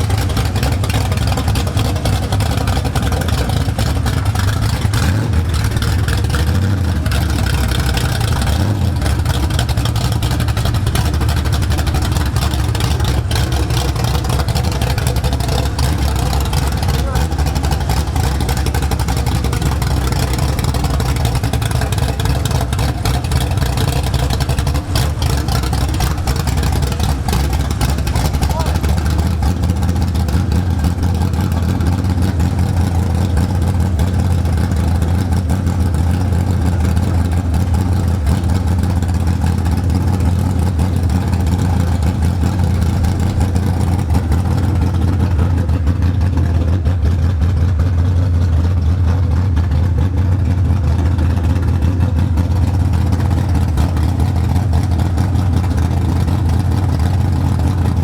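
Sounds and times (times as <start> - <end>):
race car engine idling: 0.0 - 58.0.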